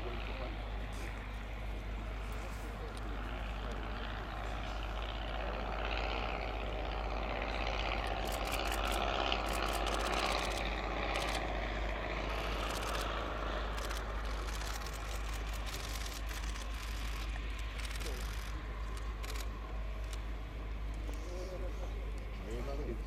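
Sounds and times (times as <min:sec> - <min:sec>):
light aircraft propeller engine: 0:00.0 - 0:23.0.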